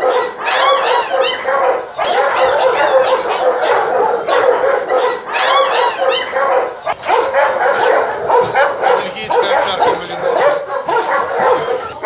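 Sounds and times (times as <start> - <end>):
dogs barking: 0.0 - 12.0
dogs yipping: 0.0 - 12.0.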